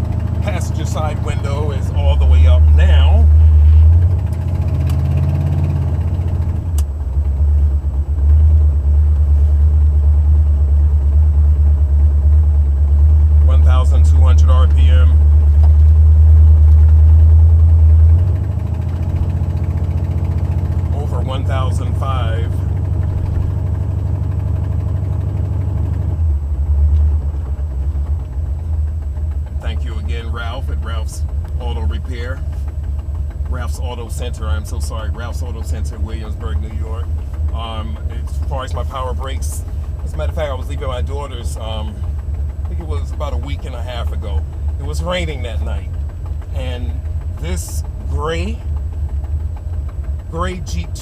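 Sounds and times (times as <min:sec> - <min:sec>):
car engine low rumble: 0:00.0 - 0:51.0
rhythmic exhaust pulsing: 0:00.0 - 0:51.0.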